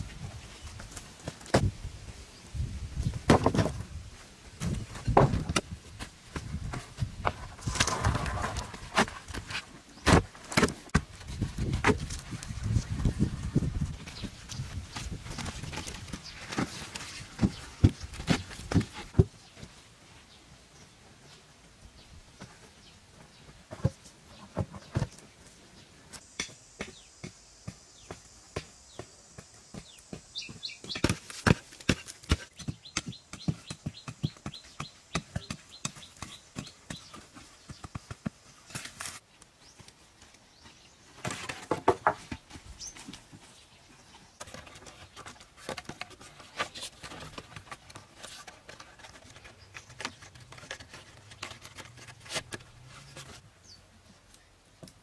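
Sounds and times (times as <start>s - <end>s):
hand tools chopping wood and earth: 0.8s - 1.8s, 3.1s - 4.0s, 4.6s - 19.7s, 23.6s - 25.4s, 26.1s - 43.5s, 44.2s - 53.4s.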